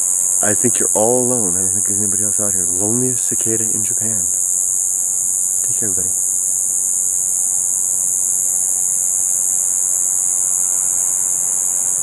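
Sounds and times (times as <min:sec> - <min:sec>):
insect buzzing call: 0:00.0 - 0:12.0.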